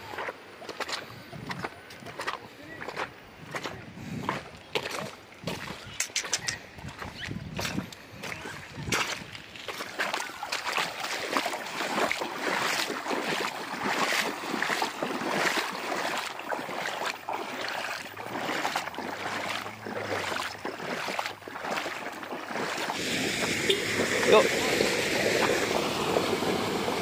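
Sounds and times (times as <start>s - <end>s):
footsteps splashing in water: 0.0s - 27.0s.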